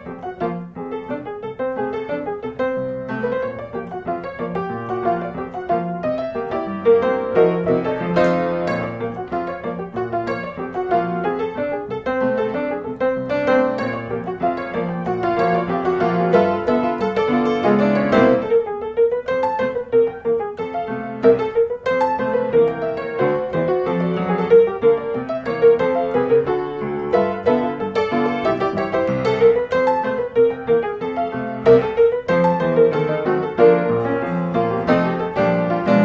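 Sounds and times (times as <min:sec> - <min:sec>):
instrumental music: 0:00.0 - 0:36.0.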